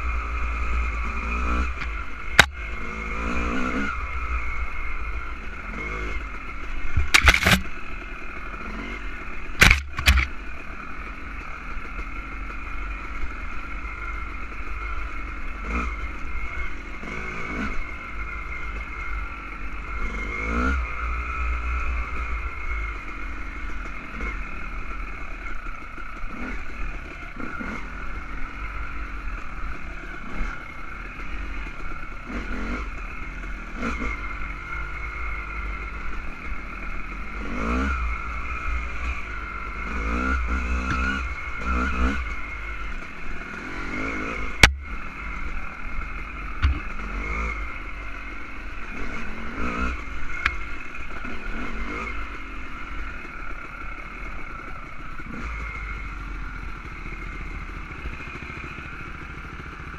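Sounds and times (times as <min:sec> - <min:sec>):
dirt bike engine revving: 0:00.0 - 0:12.8, 0:15.4 - 0:23.3, 0:26.2 - 0:59.9.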